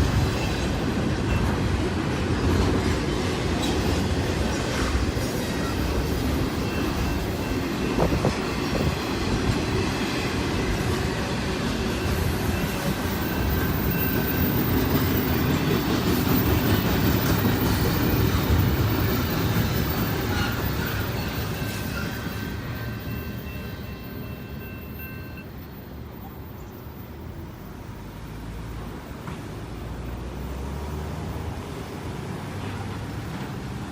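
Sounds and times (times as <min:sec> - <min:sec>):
train wheels rumbling on rails: 0:00.0 - 0:33.9.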